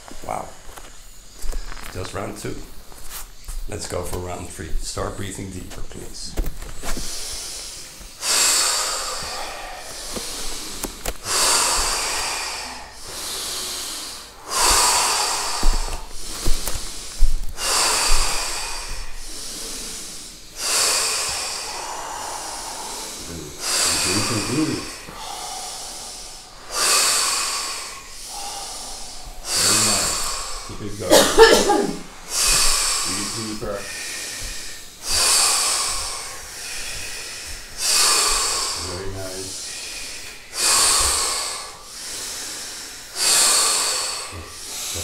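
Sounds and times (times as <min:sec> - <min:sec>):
deep forceful breathing: 0:00.0 - 0:45.0.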